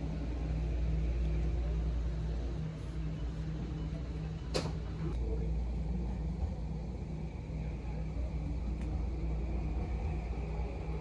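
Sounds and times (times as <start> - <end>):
train car low rumble: 0.0 - 11.0.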